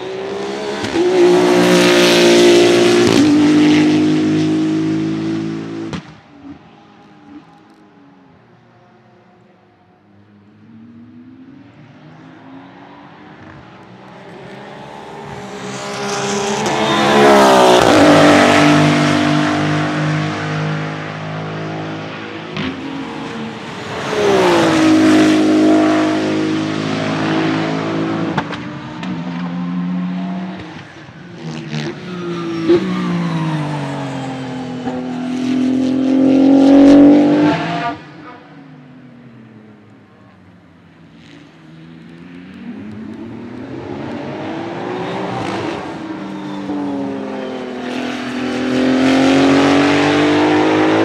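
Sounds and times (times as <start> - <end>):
race car passing at speed: 0.0 - 7.5, 10.2 - 39.5, 41.0 - 51.0.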